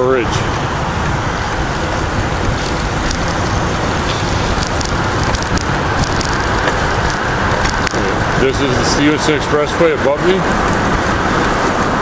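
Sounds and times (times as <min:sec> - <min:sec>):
road traffic hum: 0:00.0 - 0:12.0
wind buffeting microphone: 0:00.0 - 0:12.0.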